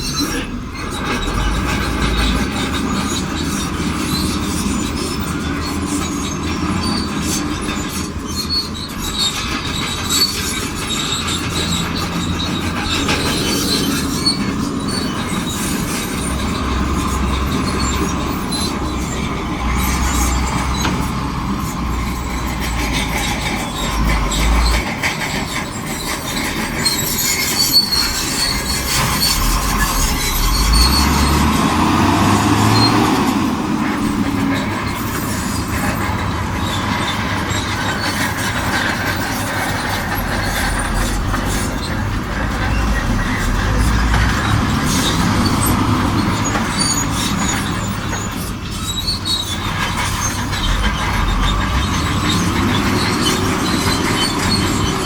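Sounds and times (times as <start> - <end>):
bulldozer diesel engine under load: 0.0 - 55.0
steel tracks squealing and clanking: 0.0 - 55.0.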